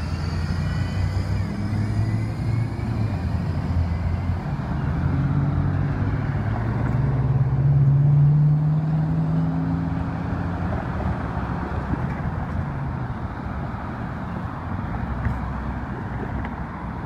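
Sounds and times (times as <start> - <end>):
car passing over railroad crossing: 0.0 - 17.0
traffic rumble: 0.0 - 17.0.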